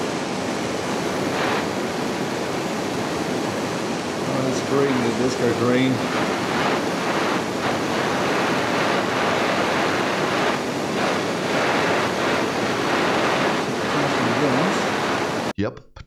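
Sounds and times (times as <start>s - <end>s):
blowtorch flame hissing: 0.0s - 15.5s.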